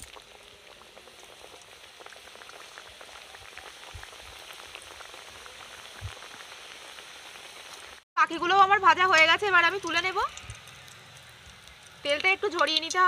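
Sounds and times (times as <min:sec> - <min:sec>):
food sizzling in deep oil: 0:00.0 - 0:13.0.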